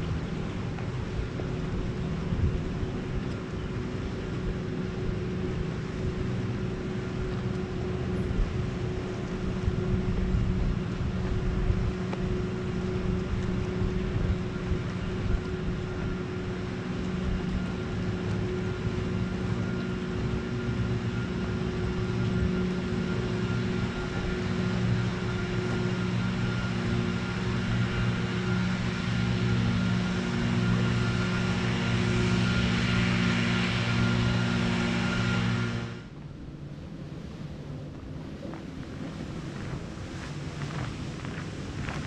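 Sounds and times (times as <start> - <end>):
steady motor drone: 0.0 - 42.0.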